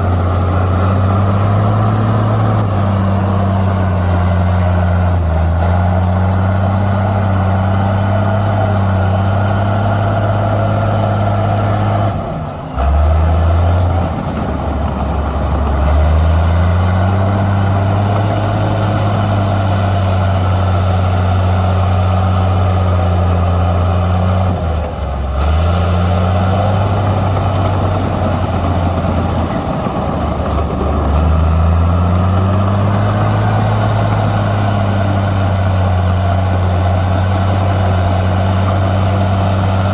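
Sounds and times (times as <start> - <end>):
heavy diesel engine running hard: 0.0 - 39.9.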